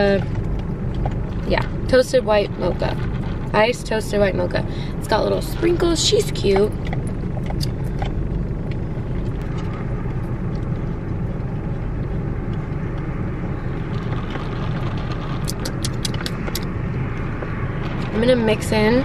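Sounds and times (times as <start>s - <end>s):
car engine idling in cabin: 0.0s - 19.0s.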